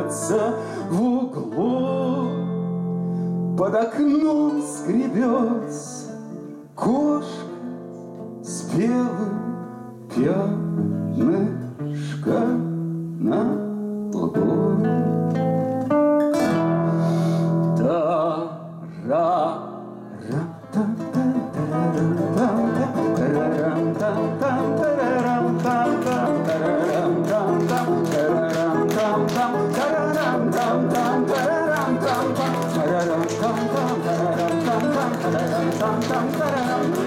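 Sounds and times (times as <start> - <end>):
acoustic guitars playing: 0.0 - 37.0.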